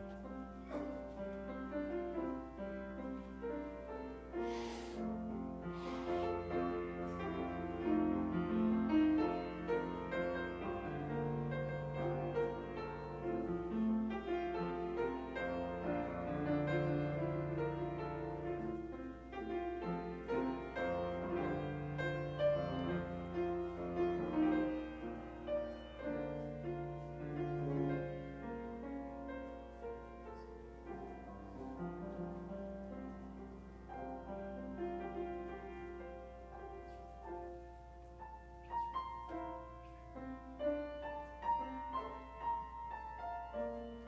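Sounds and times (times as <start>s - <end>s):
slow piano music: 0.0s - 44.0s.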